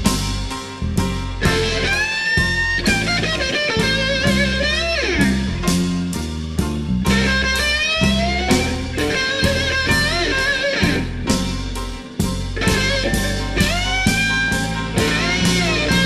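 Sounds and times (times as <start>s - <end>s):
blues-rock band playing: 0.0s - 16.0s
electric guitar with bent notes: 0.0s - 16.0s.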